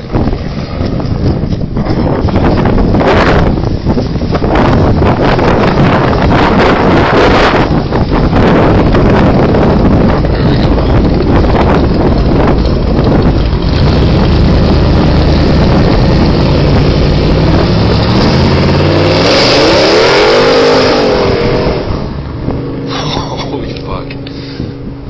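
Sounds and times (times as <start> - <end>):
car exhaust accelerating: 0.0 - 25.0
wind noise on microphone: 0.0 - 25.0.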